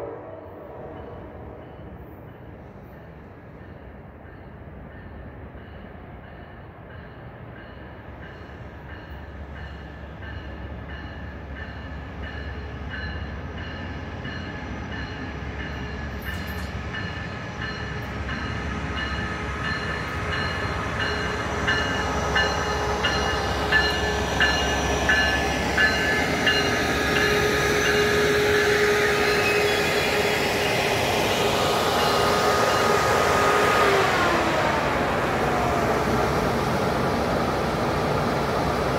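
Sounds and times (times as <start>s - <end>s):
rhythmic clicking from rails: 0.0s - 38.9s
train approaching: 0.0s - 38.9s.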